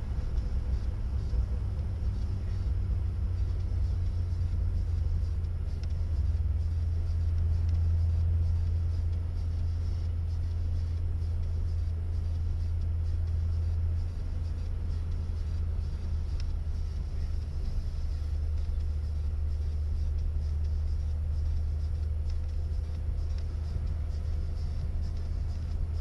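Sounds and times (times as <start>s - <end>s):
car engine droning from cabin: 0.0s - 26.0s.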